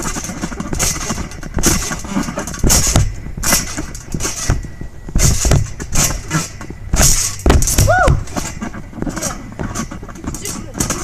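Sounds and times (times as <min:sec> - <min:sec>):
trampoline bounces thumping: 0:00.0 - 0:11.0.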